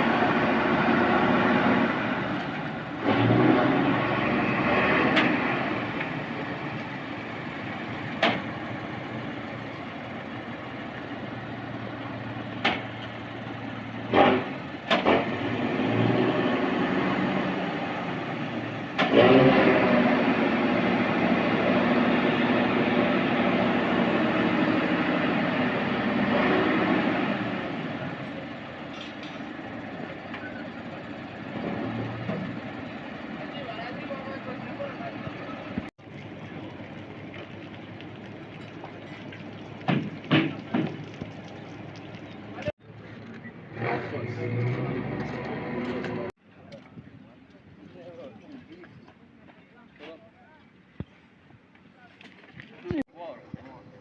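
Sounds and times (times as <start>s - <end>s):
truck engine revving: 0.0s - 46.4s.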